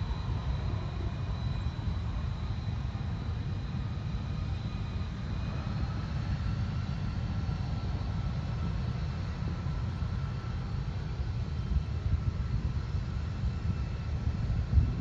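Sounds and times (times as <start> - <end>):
high steady engine whine: 0.0 - 15.0
jet engines low rumble: 0.0 - 15.0.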